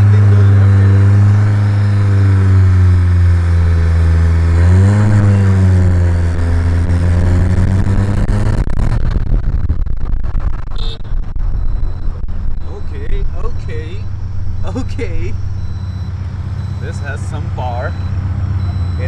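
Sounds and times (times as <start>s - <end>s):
rushing noise: 0.0s - 16.7s
car engine accelerating: 0.0s - 19.0s.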